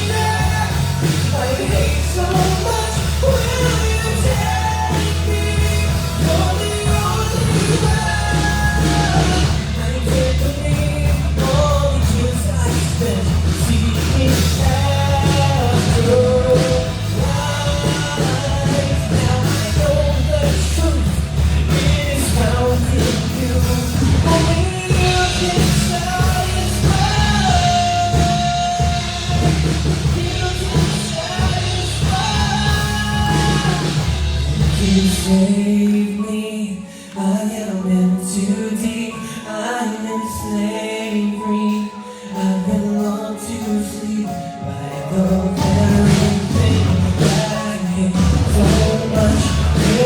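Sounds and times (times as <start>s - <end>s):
person singing: 0.0s - 50.0s
rock band playing: 0.0s - 50.0s.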